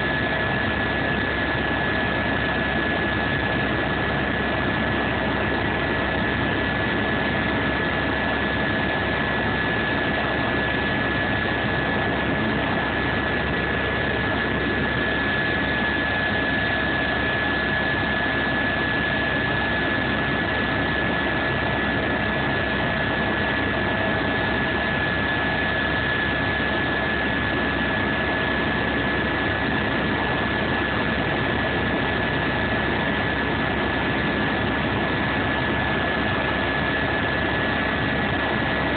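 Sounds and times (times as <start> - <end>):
aircraft engine drone: 0.0 - 38.9
steady high whine: 0.0 - 38.9.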